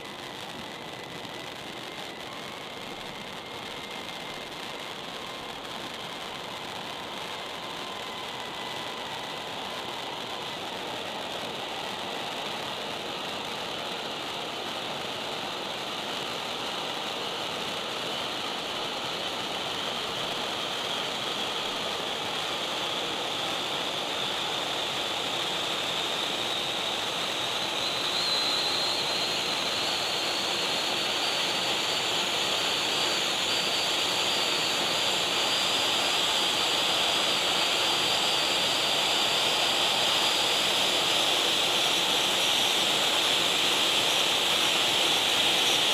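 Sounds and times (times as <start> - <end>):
firework fountain hissing: 0.0 - 45.9.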